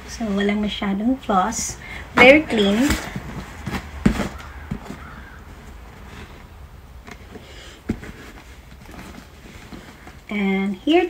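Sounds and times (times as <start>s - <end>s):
bag rustling: 2.1s - 11.0s.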